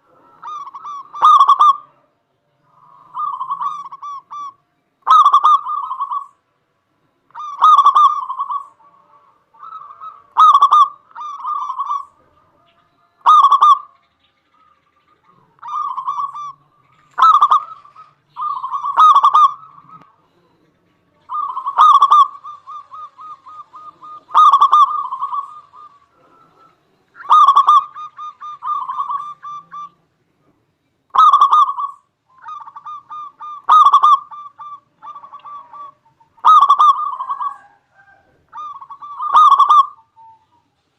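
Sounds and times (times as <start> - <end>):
dove cooing with rolling trill: 0.0 - 40.9.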